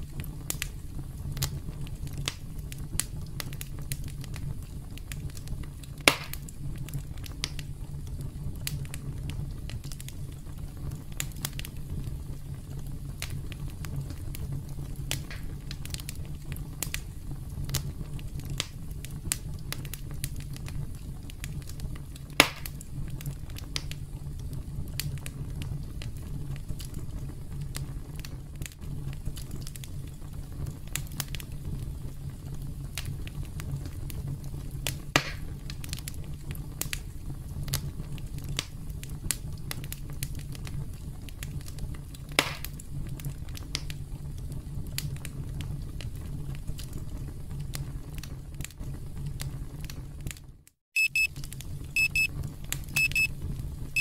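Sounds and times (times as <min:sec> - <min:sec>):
campfire crackling: 0:00.0 - 0:50.4, 0:51.1 - 0:54.0
loud fire pops: 0:00.0 - 0:50.5.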